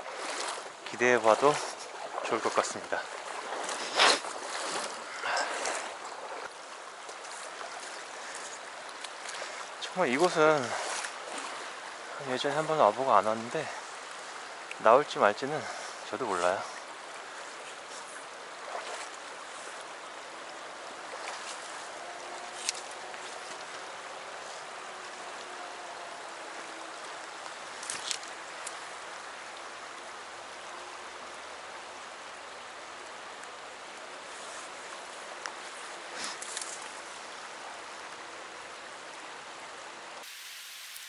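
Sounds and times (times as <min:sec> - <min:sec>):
stream running over rocks: 0:00.0 - 0:41.0.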